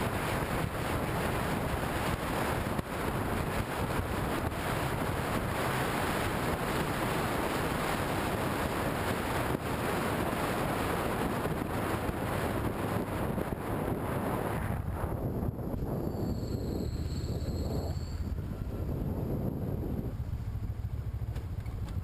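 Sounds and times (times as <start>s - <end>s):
road noise: 0.0s - 22.0s
wind rush on microphone: 0.0s - 22.0s.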